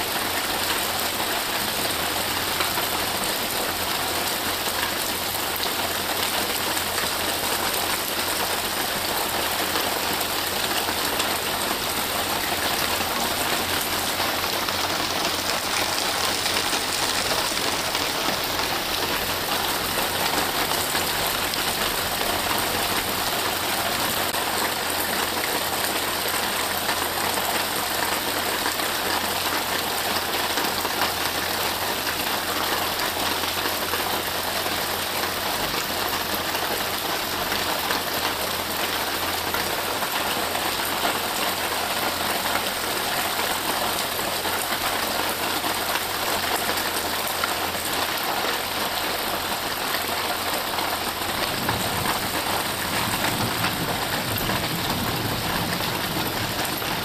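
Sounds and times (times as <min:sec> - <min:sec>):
rain falling on trees and grass: 0:00.0 - 0:57.0.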